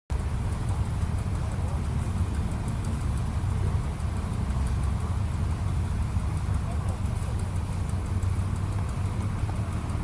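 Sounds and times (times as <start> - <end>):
engine running: 0.1 - 10.0.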